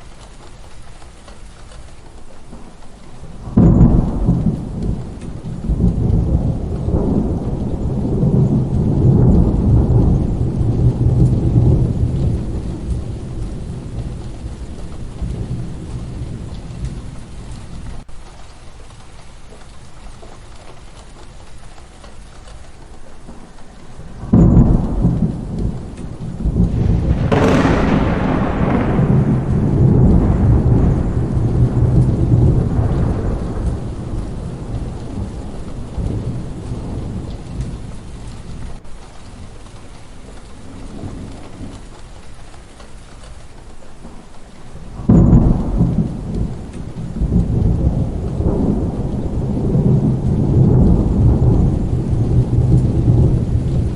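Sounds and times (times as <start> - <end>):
heavy rain: 0.0 - 53.9
thunder rumbling and cracking: 0.0 - 53.9.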